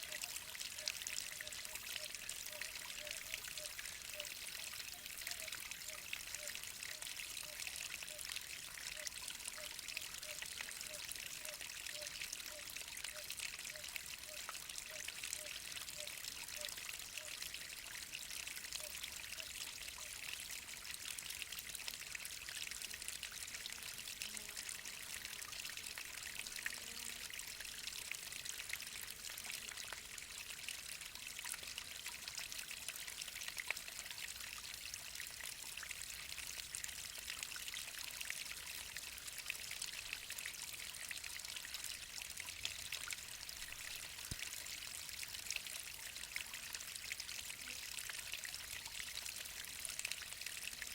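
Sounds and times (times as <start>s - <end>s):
waterfall pouring and splashing: 0.0s - 50.9s.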